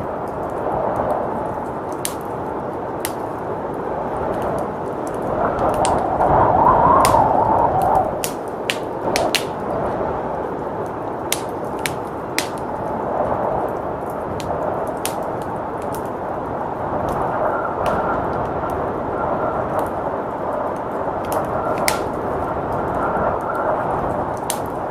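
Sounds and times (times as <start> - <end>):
whooshing blizzard wind: 0.0 - 24.9
wood fire crackling and popping: 0.0 - 24.9.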